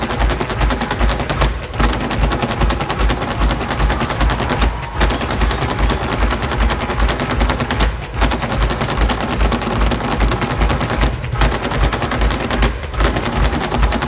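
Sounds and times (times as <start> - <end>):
fast stamping on stage: 0.0 - 14.0.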